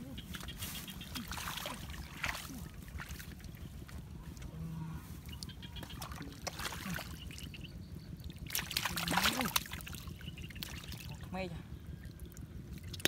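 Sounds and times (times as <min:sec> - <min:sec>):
splashing in muddy water: 0:00.0 - 0:13.0.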